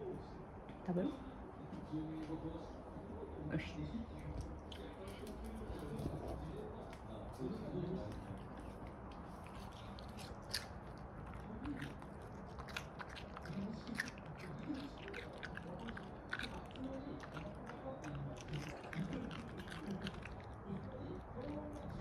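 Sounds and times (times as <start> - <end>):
dog crunching and chewing: 4.1 - 22.0.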